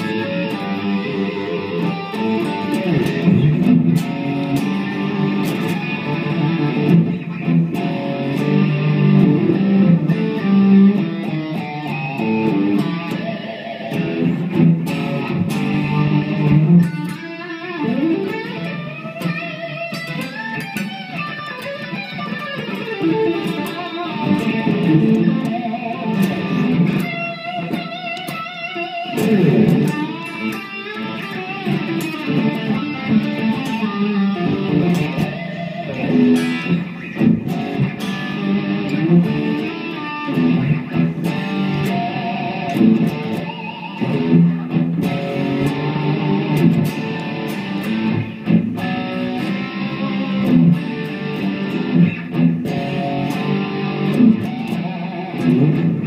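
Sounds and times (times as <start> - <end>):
distorted electric guitar riffs: 0.0 - 56.0.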